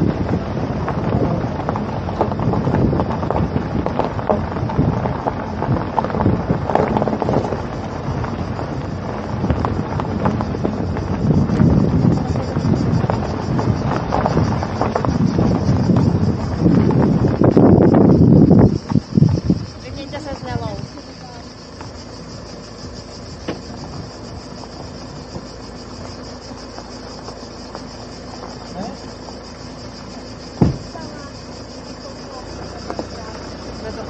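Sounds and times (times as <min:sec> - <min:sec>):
vehicle travelling along road: 0:00.0 - 0:34.0
wind buffeting microphone: 0:00.0 - 0:34.0.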